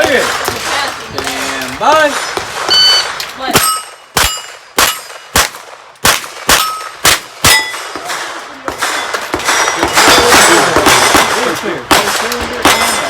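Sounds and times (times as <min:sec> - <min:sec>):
pistol shots: 0:00.0 - 0:13.0.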